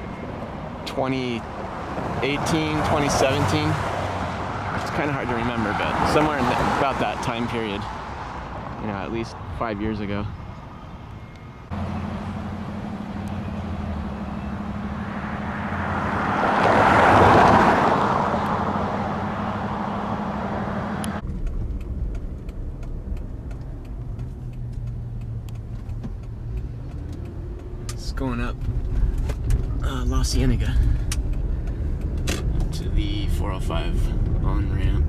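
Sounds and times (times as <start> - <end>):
engine and road hum: 0.0 - 35.0
passing vehicle: 0.0 - 35.0.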